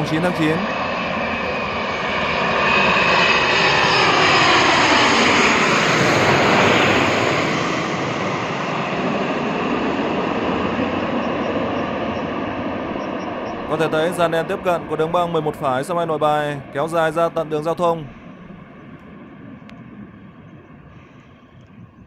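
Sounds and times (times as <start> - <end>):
jet airliner roaring overhead: 0.0 - 22.0.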